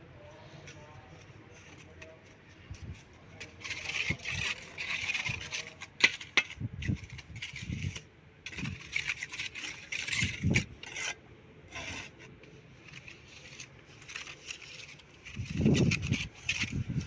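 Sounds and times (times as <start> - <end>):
scraping and rubbing on masonry: 0.4 - 17.0.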